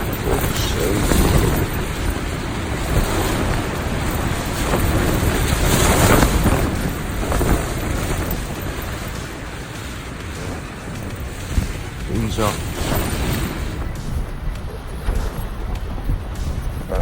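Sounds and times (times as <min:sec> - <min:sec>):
strong gusting wind: 0:00.0 - 0:17.0
wind rumbling on microphone: 0:00.0 - 0:17.0.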